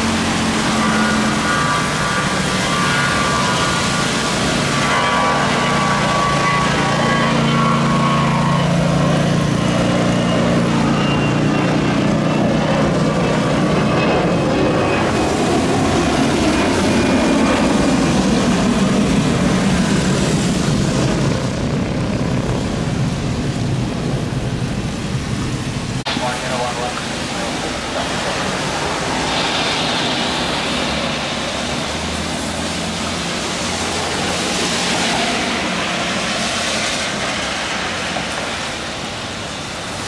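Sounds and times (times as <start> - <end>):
jet engines at takeoff: 0.0 - 40.0.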